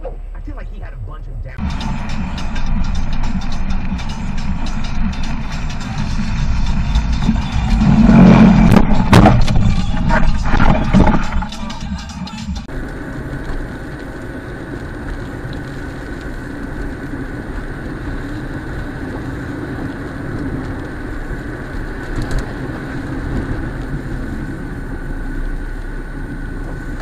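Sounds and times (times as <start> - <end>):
vehicle driving on wet road: 0.4 - 27.0.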